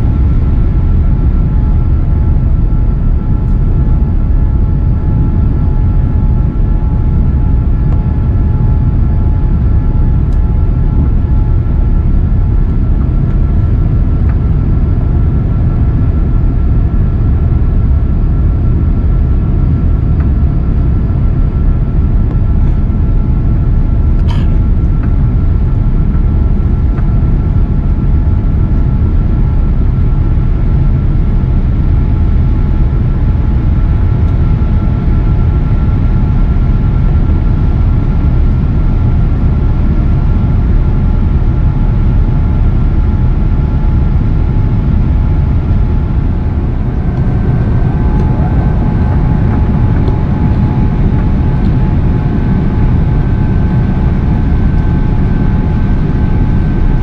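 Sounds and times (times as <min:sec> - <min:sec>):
airliner engine rumble in cabin: 0:00.0 - 0:57.0
thin steady whine: 0:00.0 - 0:57.0.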